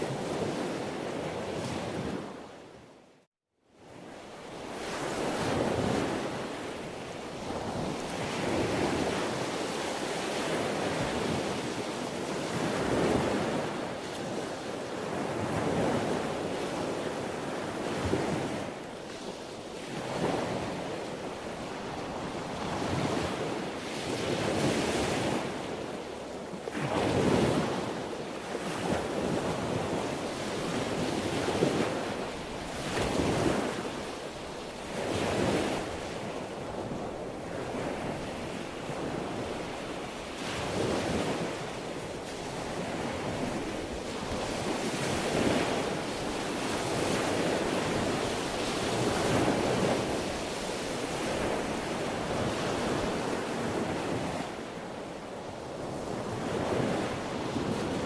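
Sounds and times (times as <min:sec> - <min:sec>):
sea waves breaking on shore: 0:00.0 - 0:02.9, 0:03.8 - 0:58.0.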